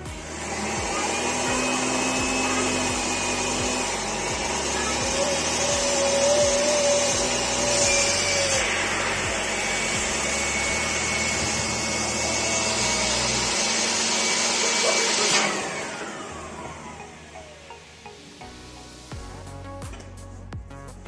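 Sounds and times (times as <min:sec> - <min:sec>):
electric air pump running: 0:00.0 - 0:19.2.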